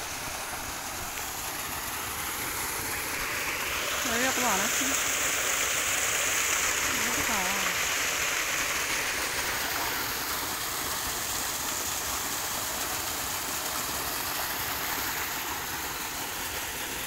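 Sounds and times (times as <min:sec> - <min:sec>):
water rushing down small drop: 0:00.0 - 0:17.0.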